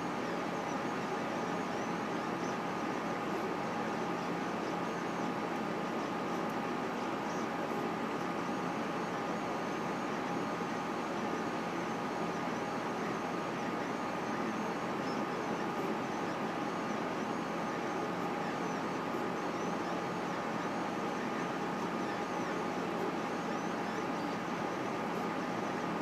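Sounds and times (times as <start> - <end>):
faint high wavering whine: 0.0 - 26.0
printer hum and hiss: 0.0 - 26.0.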